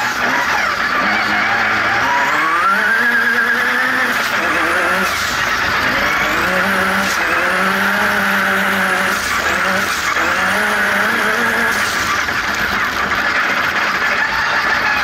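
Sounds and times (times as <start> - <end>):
race buggy engine pulling hard: 0.0 - 15.0.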